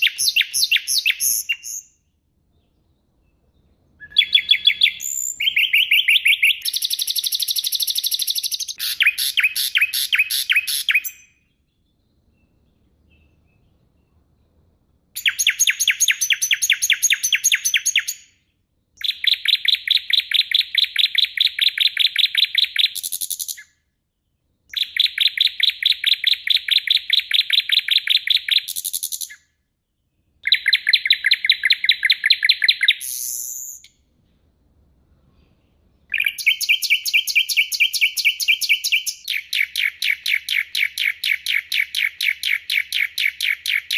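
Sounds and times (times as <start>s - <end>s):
songbird singing sharp notes: 0.0s - 14.3s, 15.2s - 34.0s, 36.0s - 43.9s.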